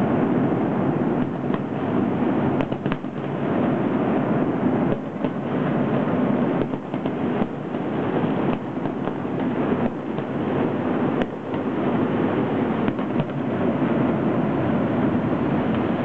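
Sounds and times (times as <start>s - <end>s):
distant fireworks popping: 0.0s - 16.0s
steady rushing background noise: 0.0s - 16.0s.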